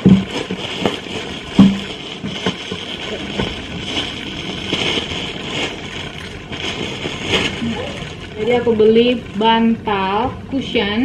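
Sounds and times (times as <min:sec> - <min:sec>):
plastic bag crinkling: 0:00.0 - 0:10.1.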